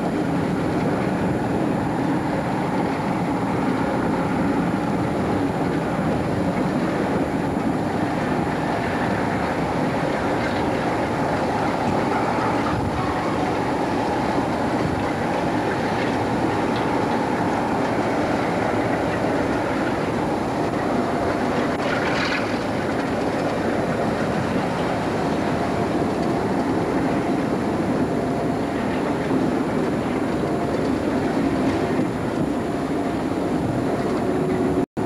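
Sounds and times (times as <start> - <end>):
train wheels rumbling on rail: 0.0 - 34.8.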